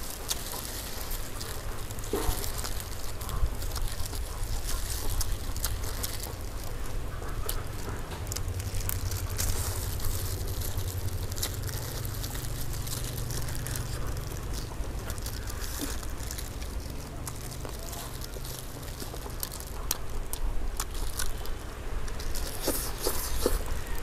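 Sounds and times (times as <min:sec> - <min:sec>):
chewing: 0:00.0 - 0:24.0
low steady rumble: 0:00.0 - 0:24.0
roast chicken pulled apart: 0:00.0 - 0:24.0.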